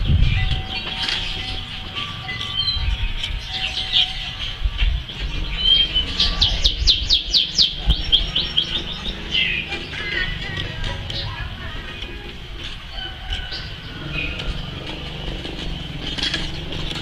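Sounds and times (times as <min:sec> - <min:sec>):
small bird singing: 0:00.0 - 0:17.0.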